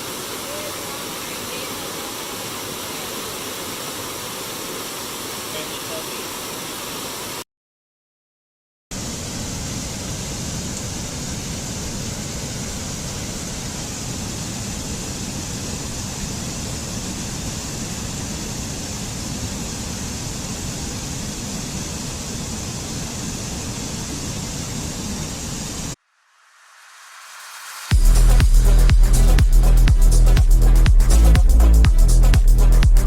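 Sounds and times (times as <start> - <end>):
waterfall rushing: 0.0 - 7.4, 10.1 - 33.0.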